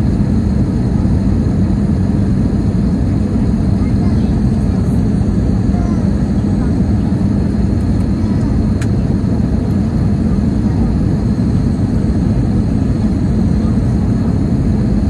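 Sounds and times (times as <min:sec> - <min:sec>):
airplane cabin engine noise: 0:00.0 - 0:15.0.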